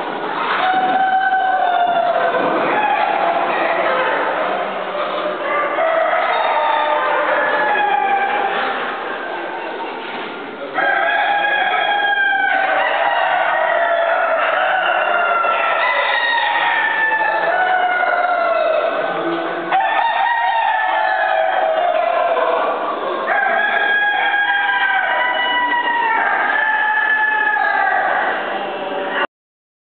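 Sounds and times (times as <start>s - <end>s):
roosters crowing: 0.4s - 9.0s, 10.7s - 29.3s.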